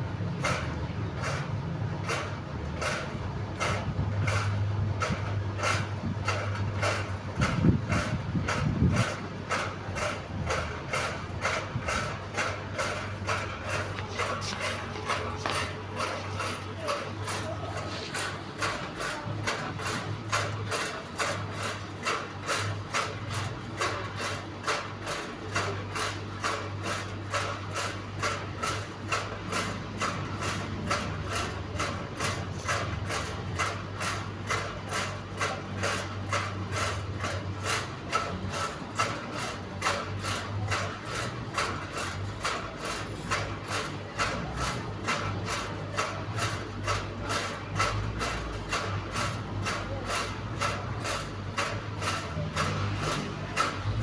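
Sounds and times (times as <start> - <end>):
fan turbine humming: 0.0 - 54.0.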